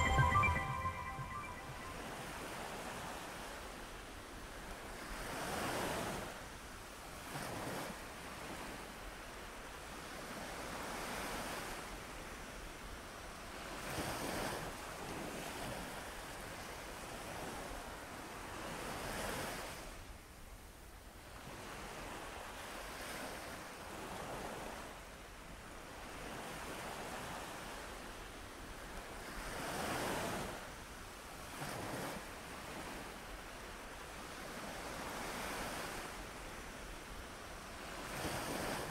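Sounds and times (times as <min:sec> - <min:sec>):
ocean waves breaking on beach: 0:00.0 - 0:02.8, 0:03.4 - 0:38.9.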